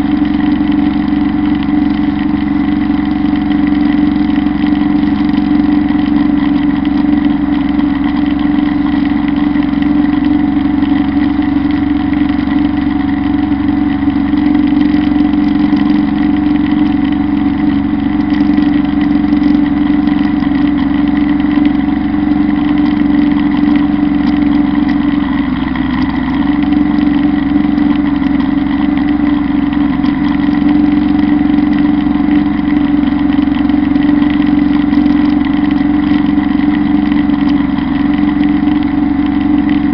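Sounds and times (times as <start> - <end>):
mower cutting grass: 0.0 - 39.9
tractor diesel engine under load: 0.0 - 39.9.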